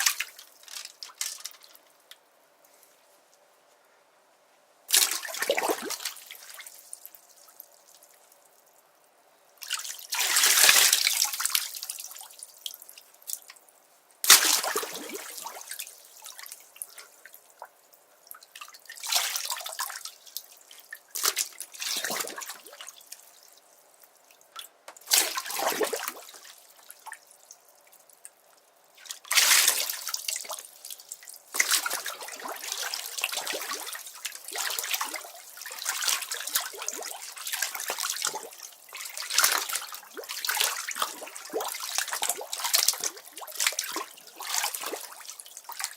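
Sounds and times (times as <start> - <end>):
water splashing in a bathtub: 0.0 - 1.9, 4.9 - 8.3, 9.6 - 13.5, 14.2 - 45.9.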